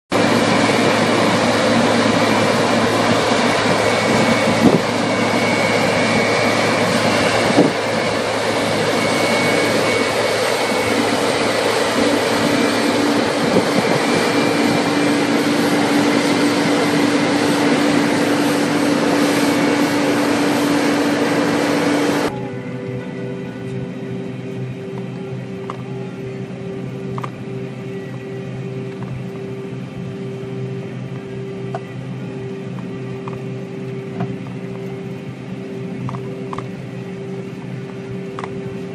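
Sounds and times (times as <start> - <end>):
machine drone with whine: 0.1 - 38.9.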